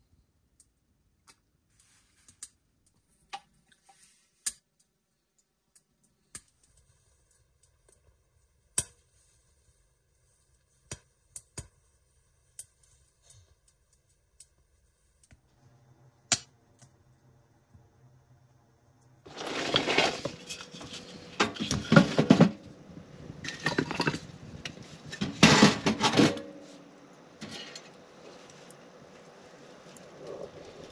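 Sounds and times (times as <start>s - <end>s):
firewood crackling in stove: 0.0s - 30.9s.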